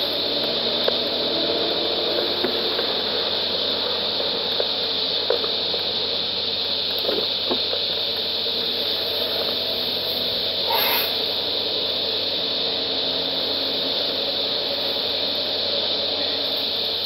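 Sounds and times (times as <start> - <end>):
car cabin and road noise: 0.0 - 17.0
engine idling: 0.0 - 17.0.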